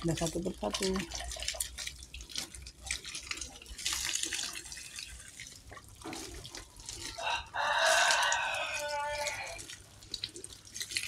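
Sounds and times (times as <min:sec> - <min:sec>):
water pouring from garden hose: 0:00.0 - 0:11.0
water splashing on ground: 0:00.0 - 0:11.0.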